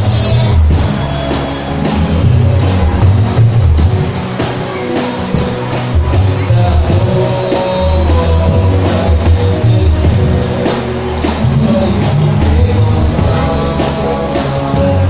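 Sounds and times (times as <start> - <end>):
amplified band with heavy bass: 0.0 - 15.0
man singing lead: 0.0 - 15.0
steady drum beat: 0.0 - 15.0
youth choir singing: 0.0 - 15.0.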